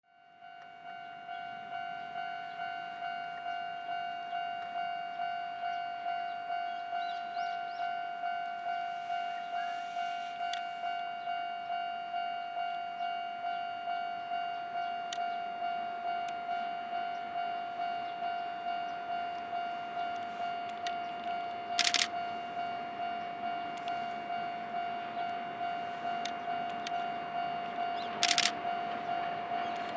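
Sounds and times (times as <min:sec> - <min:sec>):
level crossing alarm bell ringing: 0:00.1 - 0:29.9.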